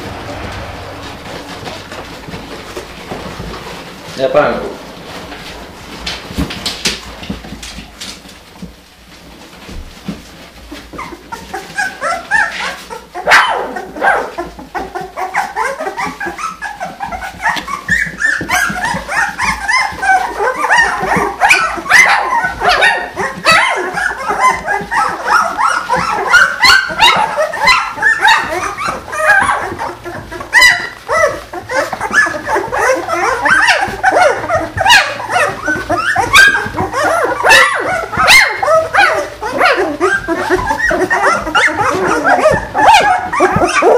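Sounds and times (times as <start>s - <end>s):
puppies whining and yelping: 0.0s - 43.9s.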